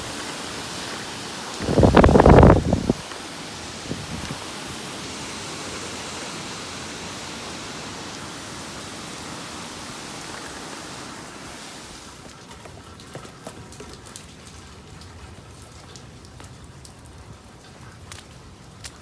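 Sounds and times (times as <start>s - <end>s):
heavy rain: 0.0s - 18.8s
wind: 0.0s - 19.0s.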